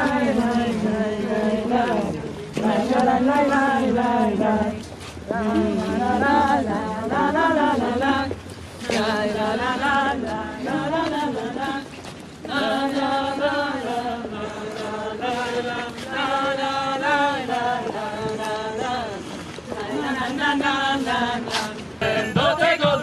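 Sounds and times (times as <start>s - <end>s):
voices singing unaccompanied: 0.0s - 23.0s.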